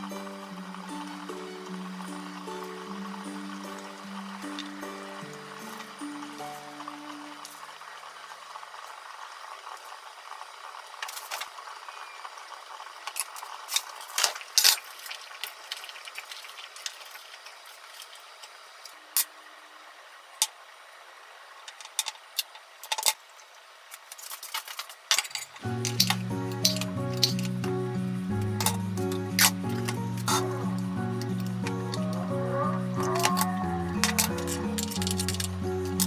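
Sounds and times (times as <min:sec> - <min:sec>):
faint steady hiss: 0:00.0 - 0:36.0.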